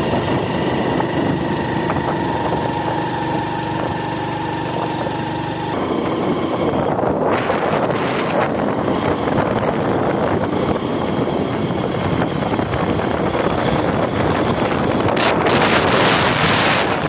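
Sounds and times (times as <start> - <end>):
motorcycle engine and road noise: 0.0 - 17.0
wind rushing over microphone: 0.0 - 17.0.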